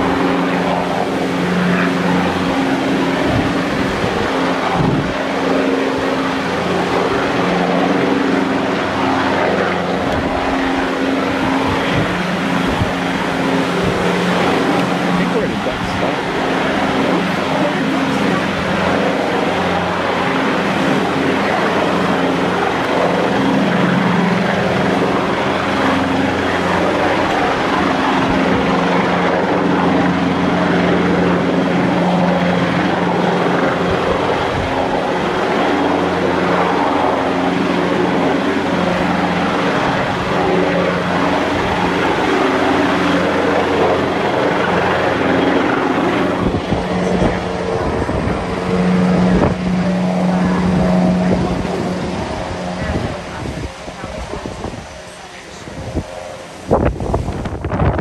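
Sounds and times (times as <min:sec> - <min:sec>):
gale-force wind rushing: 0:00.0 - 0:58.0
helicopter rotor and engine drone: 0:00.0 - 0:58.0.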